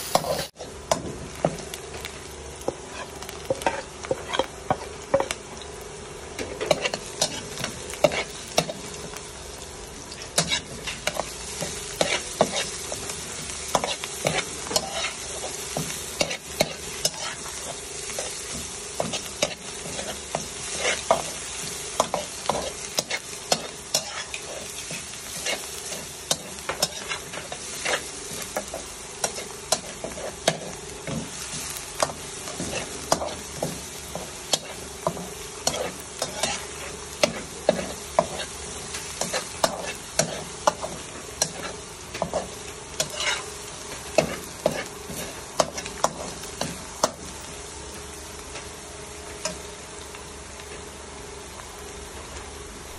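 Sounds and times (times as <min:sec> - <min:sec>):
spatula scraping a wok: 0:00.0 - 0:00.8, 0:02.6 - 0:05.4, 0:06.4 - 0:09.2, 0:10.0 - 0:47.4
vegetables sizzling in oil: 0:00.0 - 0:52.9.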